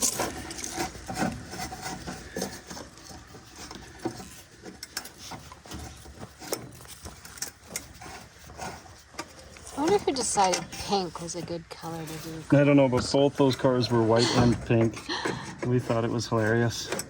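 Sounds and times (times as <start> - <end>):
hand tools scraping metal parts: 0.0 - 17.0.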